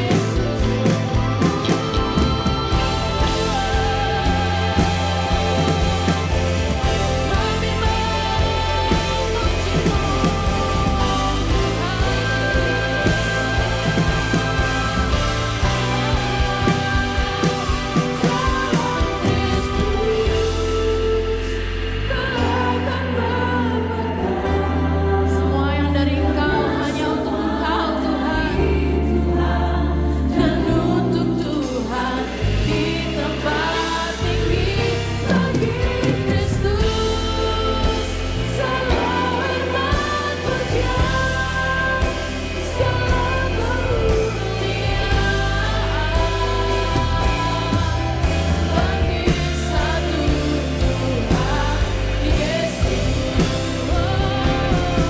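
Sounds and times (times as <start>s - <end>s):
bass guitar: 0.0s - 55.0s
drum kit: 0.0s - 55.0s
voices singing: 0.0s - 55.0s
worship band music: 0.0s - 55.0s.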